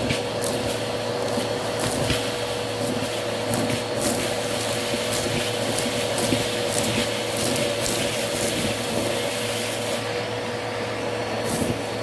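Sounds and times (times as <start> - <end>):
vacuum cleaner whine: 0.0 - 12.0.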